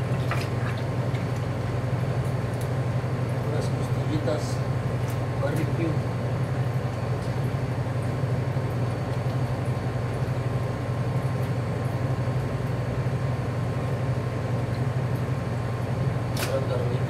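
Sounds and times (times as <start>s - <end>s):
kitchen machinery humming: 0.0s - 17.0s.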